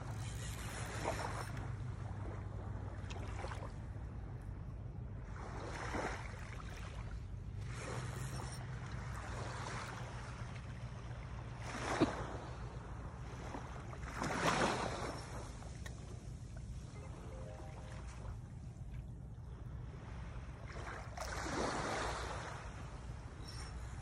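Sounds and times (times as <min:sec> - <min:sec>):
small waves washing ashore: 0:00.0 - 0:04.6, 0:05.2 - 0:24.0.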